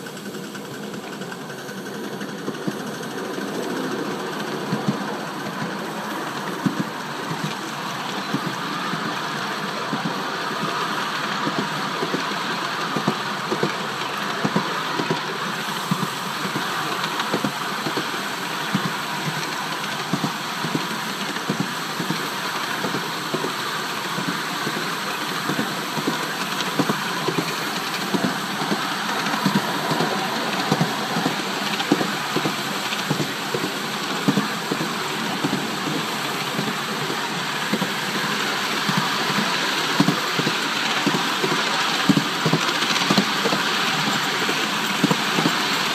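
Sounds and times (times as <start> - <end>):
miniature steam locomotive running: 0.0 - 45.9.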